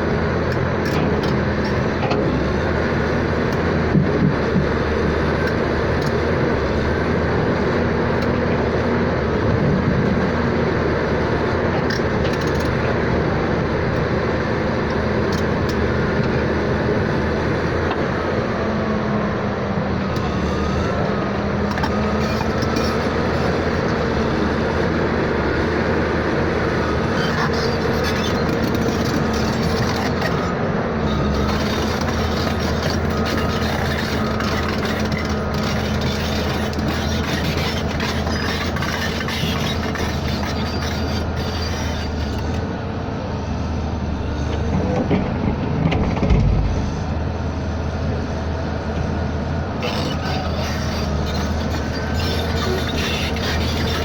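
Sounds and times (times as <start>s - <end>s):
vehicle running rumble: 0.0s - 54.0s.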